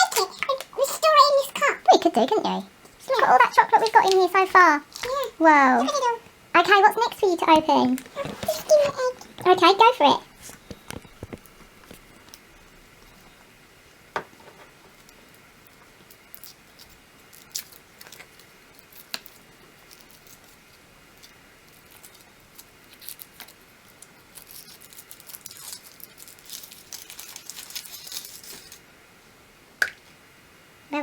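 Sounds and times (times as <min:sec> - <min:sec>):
foil wrapper crinkling: 0:00.0 - 0:01.8, 0:03.0 - 0:13.2, 0:15.0 - 0:28.8.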